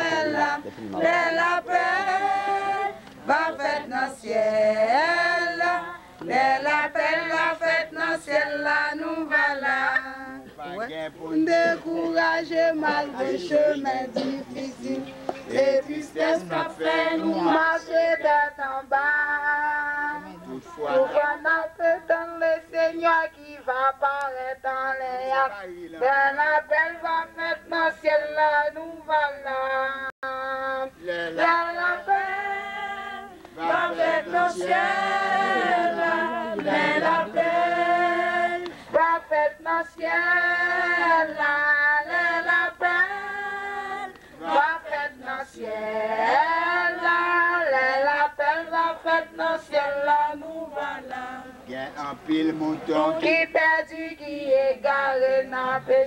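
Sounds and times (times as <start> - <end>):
women singing a hymn: 0.0 - 10.6, 11.3 - 51.7, 52.8 - 56.0.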